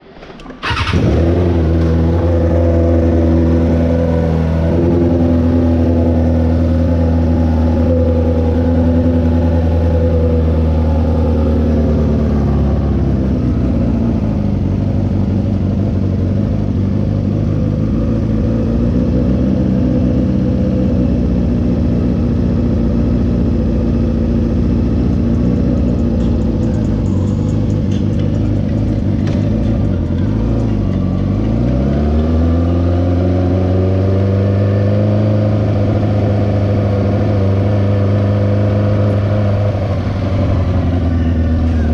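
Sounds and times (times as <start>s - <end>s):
motorcycle engine idling: 0.6s - 33.2s, 38.8s - 41.9s.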